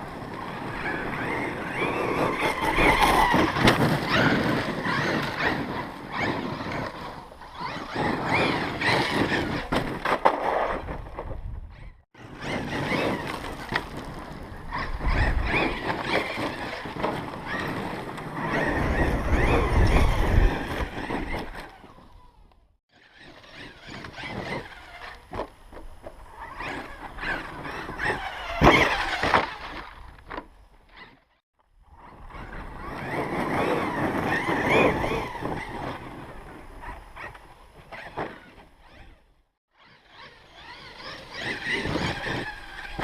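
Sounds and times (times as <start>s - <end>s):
electric toy truck motor whining: 0.4s - 9.7s, 12.2s - 25.6s, 26.2s - 30.3s, 32.1s - 43.0s.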